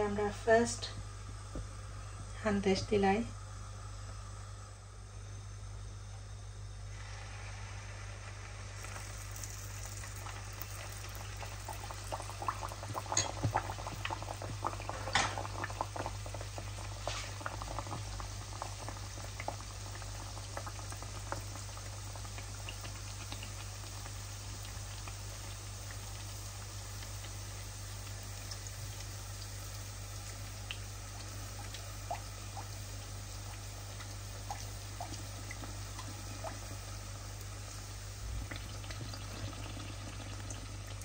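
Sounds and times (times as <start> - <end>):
steady low hum: 0.0 - 41.0
batter frying in hot oil: 6.5 - 41.0.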